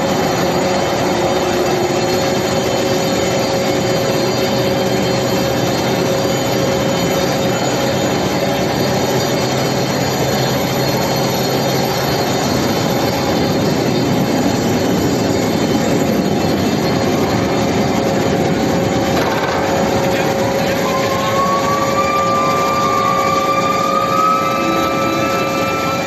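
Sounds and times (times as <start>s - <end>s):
roller table metallic rumble and screech: 0.0s - 26.0s.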